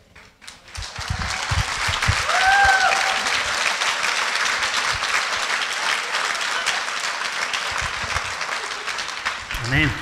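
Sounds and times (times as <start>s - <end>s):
congregation applauding: 0.1s - 10.0s.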